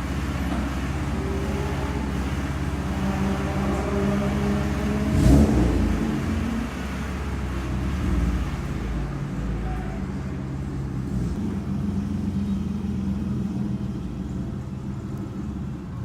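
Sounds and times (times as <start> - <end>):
race car engine droning: 0.0 - 16.0.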